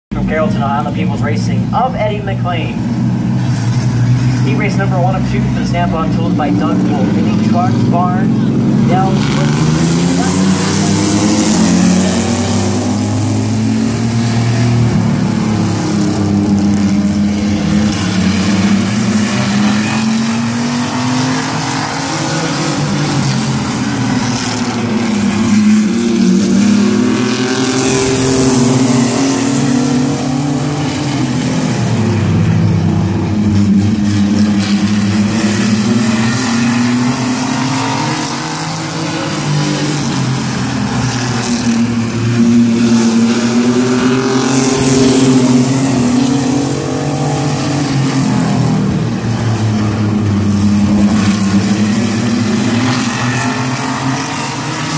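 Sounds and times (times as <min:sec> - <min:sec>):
racing truck engines passing: 0:00.1 - 0:54.9.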